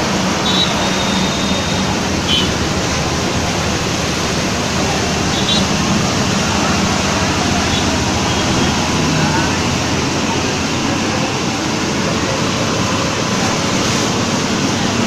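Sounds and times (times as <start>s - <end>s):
rushing noise: 0.0s - 15.0s.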